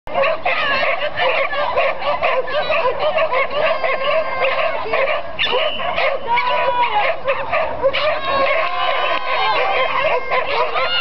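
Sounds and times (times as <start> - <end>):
many dogs barking and yipping: 0.1 - 11.0.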